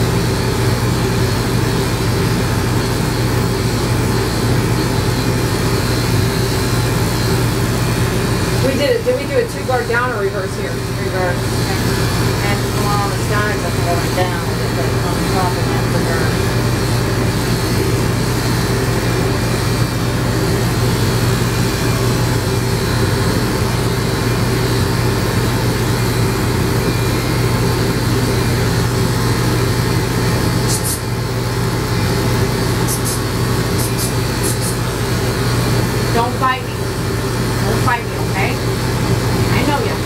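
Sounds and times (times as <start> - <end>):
electric clippers buzzing: 0.0 - 40.0.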